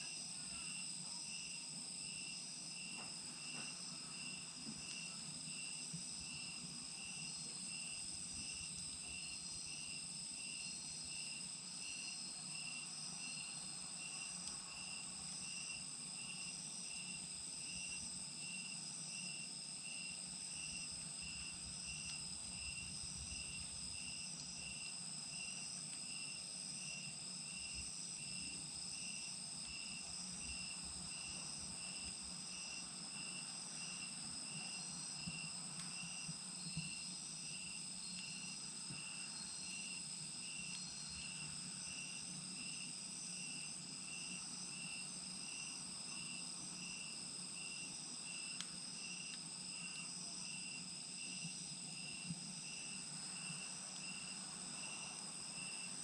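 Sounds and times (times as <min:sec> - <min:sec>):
insects trilling: 0:00.0 - 0:56.0
pulsing insect chirp: 0:00.0 - 0:56.0.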